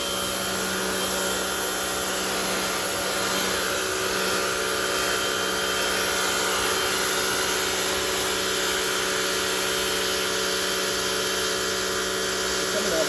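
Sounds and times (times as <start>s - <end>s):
pressure washer pump humming: 0.0s - 13.0s
water jet spraying onto concrete: 0.0s - 13.0s.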